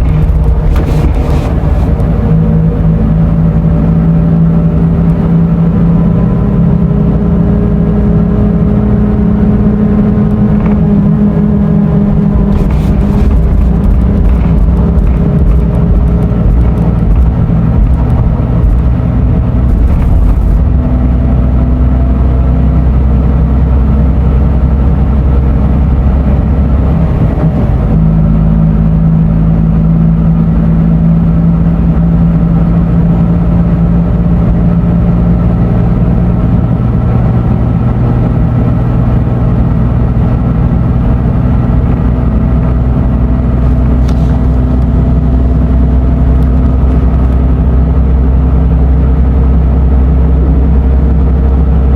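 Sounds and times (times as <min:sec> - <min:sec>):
diesel coach engine running: 0:00.0 - 0:51.9.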